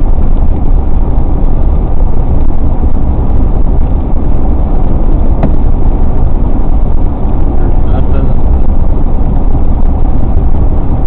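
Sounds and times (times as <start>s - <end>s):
car driving road noise: 0.0s - 11.0s.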